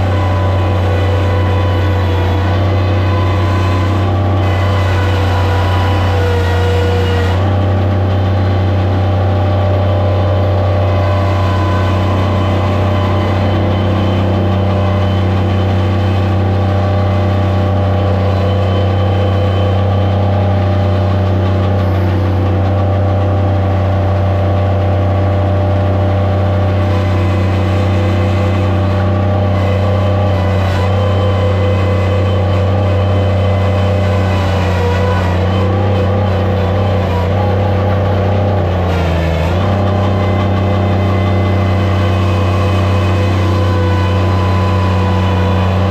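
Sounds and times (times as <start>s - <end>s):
loader engine running: 0.0s - 45.9s.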